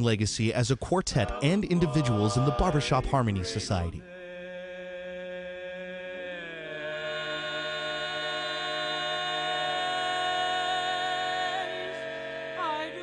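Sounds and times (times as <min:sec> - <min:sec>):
men singing a cappella chords: 0:01.1 - 0:13.0.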